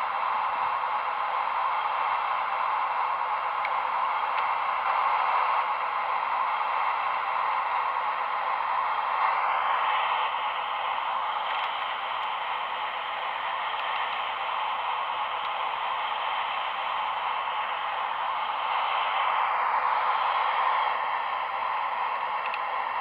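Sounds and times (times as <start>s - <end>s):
model machinery whirring: 0.0s - 23.0s.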